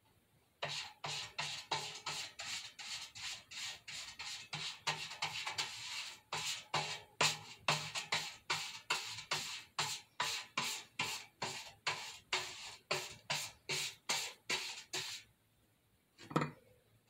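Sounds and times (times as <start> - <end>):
paintbrush scraping on metal can: 0.6 - 15.3.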